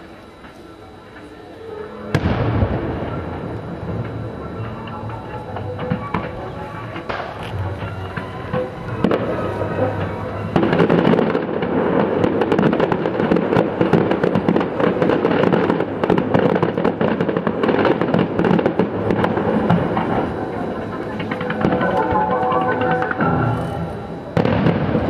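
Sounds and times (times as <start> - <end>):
fireworks bursting and crackling: 2.1 - 25.0.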